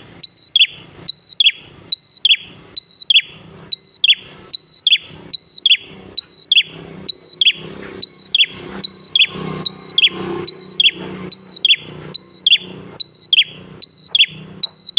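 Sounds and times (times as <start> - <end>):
bird singing repeated phrase: 0.0 - 14.9.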